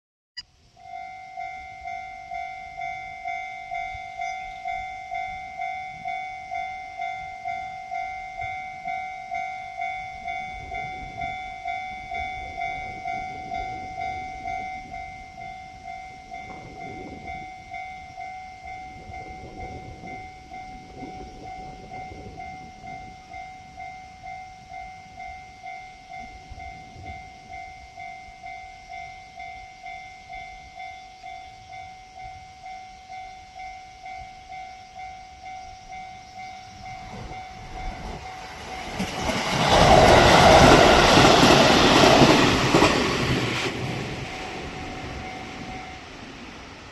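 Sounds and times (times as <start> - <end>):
electric train passing: 0.6 - 46.9
level crossing bell ringing: 0.8 - 39.1, 44.2 - 46.4.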